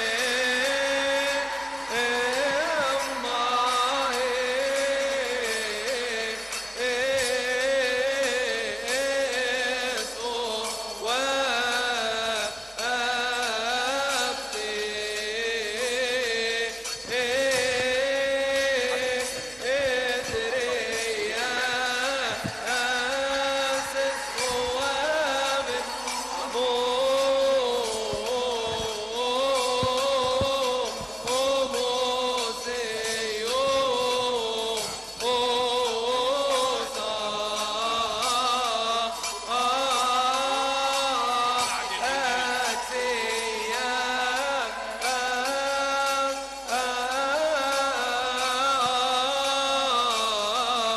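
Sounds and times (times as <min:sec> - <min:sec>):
liturgical chant: 0:00.0 - 0:50.9.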